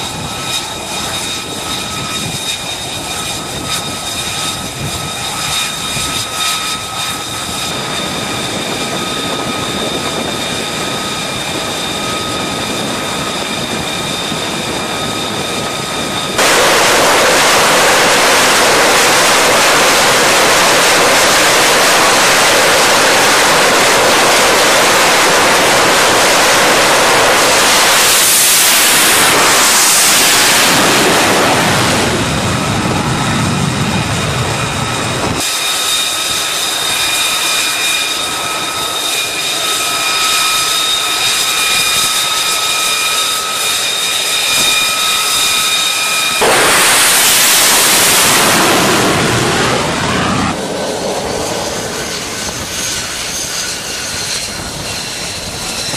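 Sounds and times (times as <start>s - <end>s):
high whining tones: 0.0s - 55.9s
jet engine roaring: 0.0s - 55.9s.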